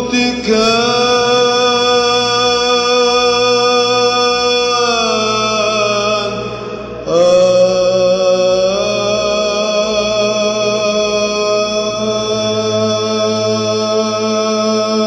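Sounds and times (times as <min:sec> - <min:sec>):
man chanting a long note: 0:00.0 - 0:15.0
steady low drone: 0:00.0 - 0:15.0.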